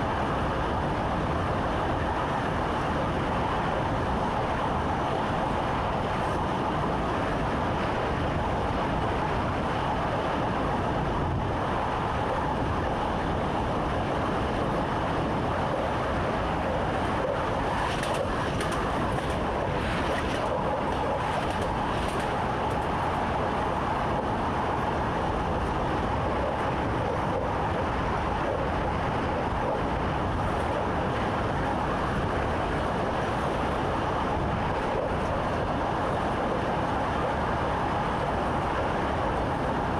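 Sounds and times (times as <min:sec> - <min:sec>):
train rumbling on track: 0:00.0 - 0:39.9.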